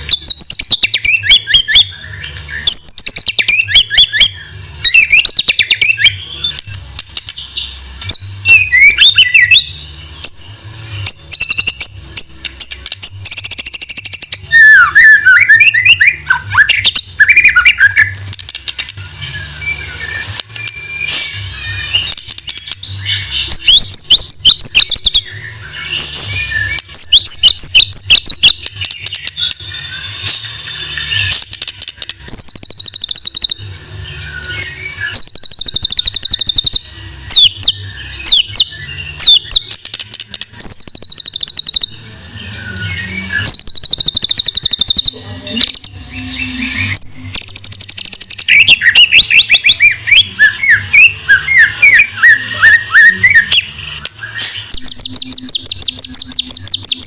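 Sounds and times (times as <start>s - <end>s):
bird singing whistled phrases: 0.0s - 6.7s, 7.4s - 57.0s.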